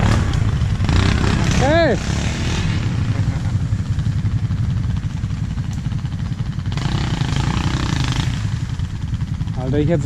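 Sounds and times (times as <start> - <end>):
quad bike engine idling: 0.0 - 10.0.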